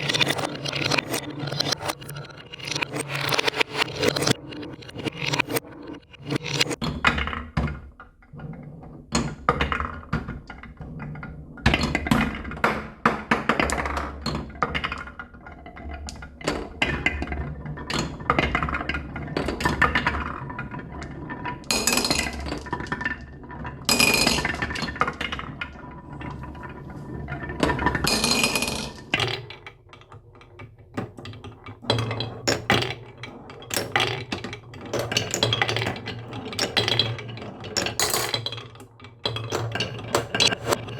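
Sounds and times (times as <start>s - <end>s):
marbles rolling on wooden track: 0.0s - 40.9s.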